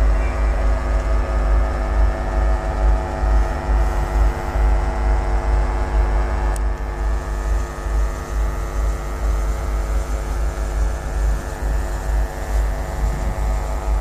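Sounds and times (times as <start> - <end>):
electric locomotive droning: 0.0 - 14.0.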